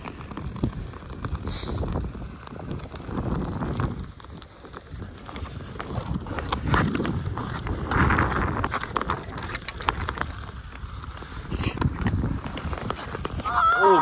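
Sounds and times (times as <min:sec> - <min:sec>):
ice skates scraping: 0:00.0 - 0:14.0
hockey sticks and pucks clacking: 0:02.0 - 0:13.6.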